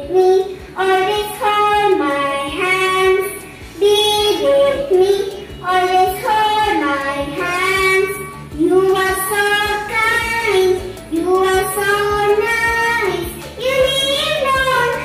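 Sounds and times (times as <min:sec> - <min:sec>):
girl singing: 0:00.0 - 0:15.0.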